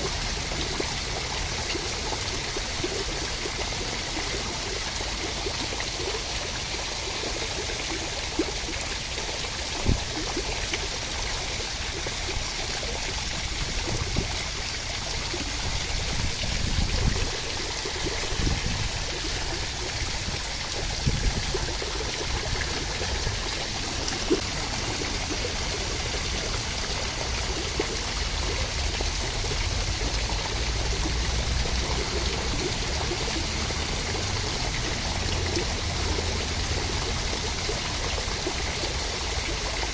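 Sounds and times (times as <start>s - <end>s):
rushing water: 0.0s - 39.9s
water splashes: 0.0s - 39.9s.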